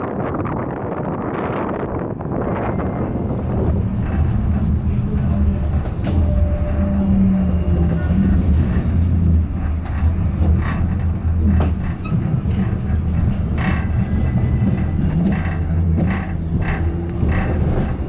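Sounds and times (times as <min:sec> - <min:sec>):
tram rumble and motor hum: 0:00.0 - 0:18.0.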